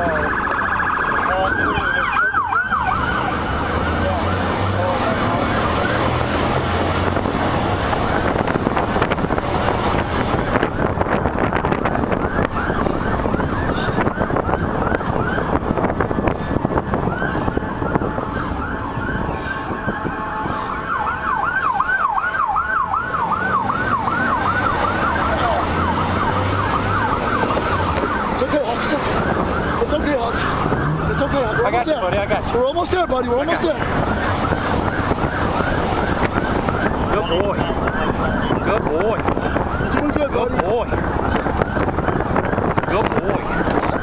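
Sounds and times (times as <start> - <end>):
emergency siren wailing and yelping: 0.0 - 44.0
road noise: 0.0 - 44.0
wind rushing: 5.6 - 44.0.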